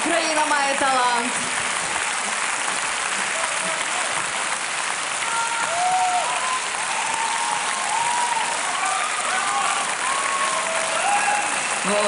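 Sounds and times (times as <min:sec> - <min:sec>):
audience applauding: 0:00.0 - 0:12.0
people cheering: 0:01.4 - 0:12.0.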